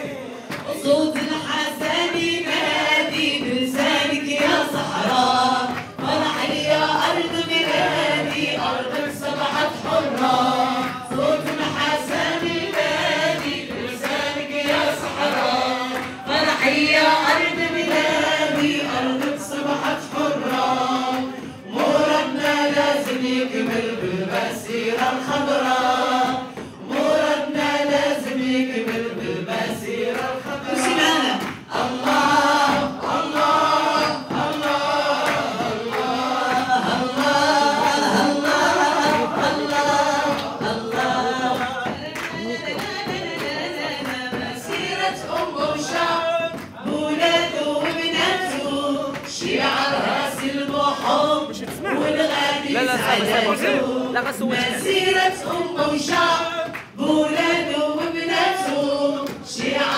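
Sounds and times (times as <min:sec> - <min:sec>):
group of people singing: 0:00.0 - 0:59.9
hand clapping: 0:00.0 - 0:59.9.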